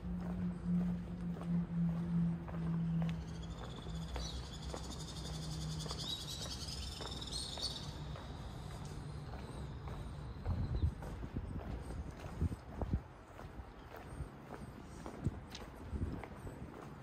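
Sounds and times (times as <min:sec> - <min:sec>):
footsteps on cobblestones: 0:00.0 - 0:17.0.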